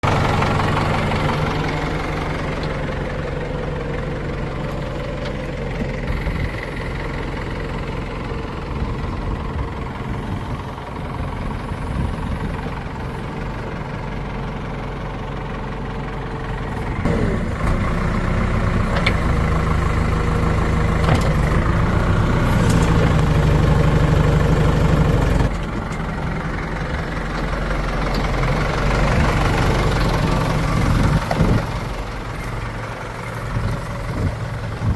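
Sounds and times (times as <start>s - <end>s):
diesel engines running: 0.0s - 34.9s.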